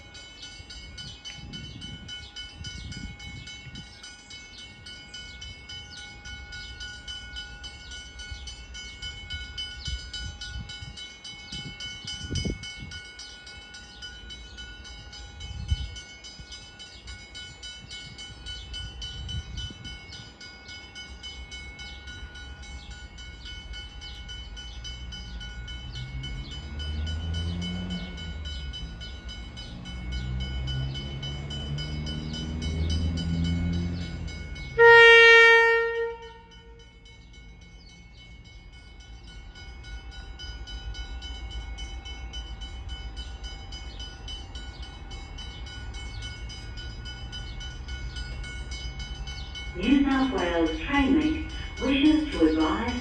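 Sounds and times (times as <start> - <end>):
diesel train engine whining: 0.0 - 53.0.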